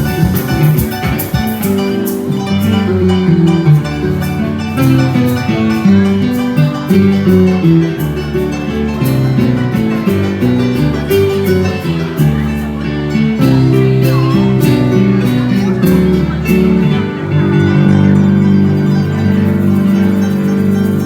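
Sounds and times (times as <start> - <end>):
folk music on plucked strings: 0.0 - 21.0.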